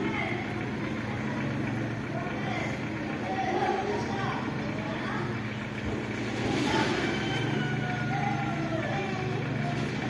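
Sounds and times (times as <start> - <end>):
low traffic hum: 0.0 - 10.0.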